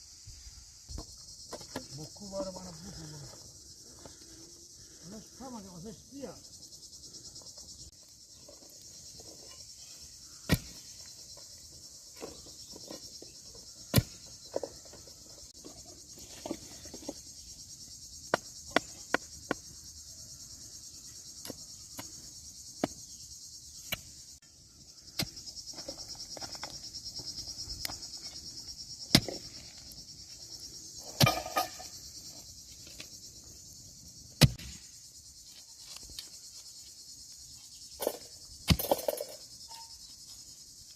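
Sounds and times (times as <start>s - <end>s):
insect chorus trilling: 0.0s - 40.9s.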